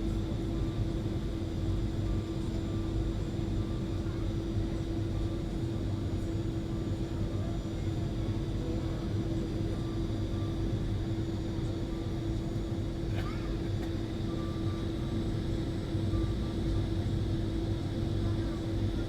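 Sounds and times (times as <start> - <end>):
airliner engine drone: 0.0 - 19.0
constant cabin hum: 0.0 - 19.0.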